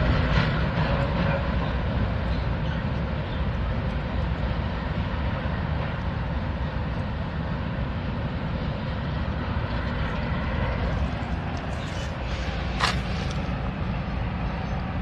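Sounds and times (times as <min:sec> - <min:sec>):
freight train rumbling over bridge: 0:00.0 - 0:15.0.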